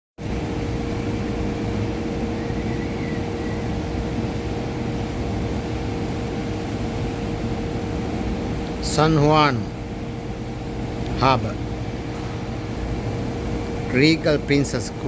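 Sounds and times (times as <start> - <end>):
constant mid-pitched tone: 0.2 - 15.0
low rumble and droning hum: 0.2 - 15.0.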